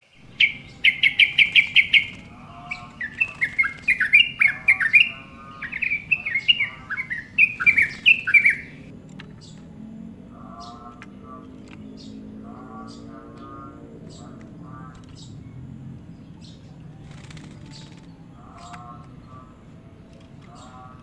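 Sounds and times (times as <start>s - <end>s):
bulbul singing: 0.0s - 9.7s, 10.3s - 21.0s.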